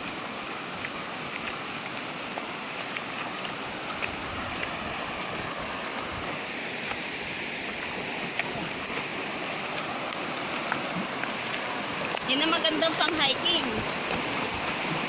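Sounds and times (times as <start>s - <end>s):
footsteps on river stones: 0.0s - 15.0s
stream running over rocks: 0.0s - 15.0s.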